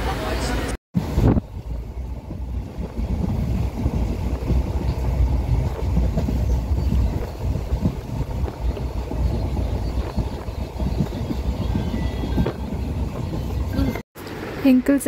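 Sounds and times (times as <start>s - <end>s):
train wheels rumbling on rails: 0.0s - 15.0s
constant rattling: 1.4s - 14.0s.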